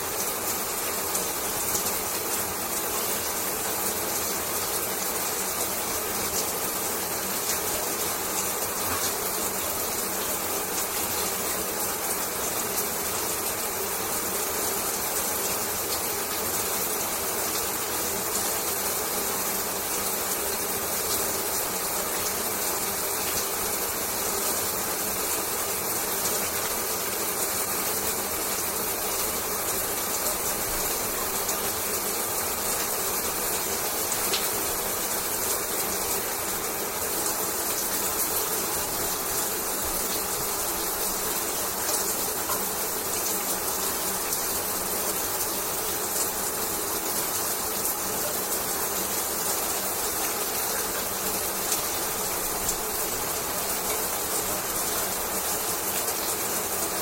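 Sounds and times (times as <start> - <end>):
shower water running: 0.0 - 57.0.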